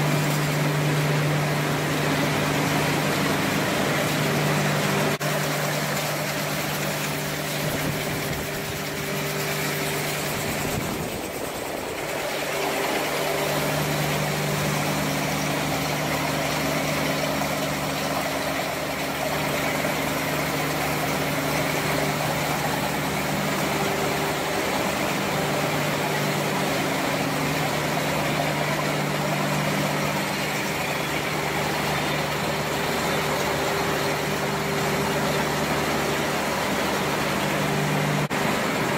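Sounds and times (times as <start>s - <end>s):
factory machinery hum: 0.0s - 38.9s.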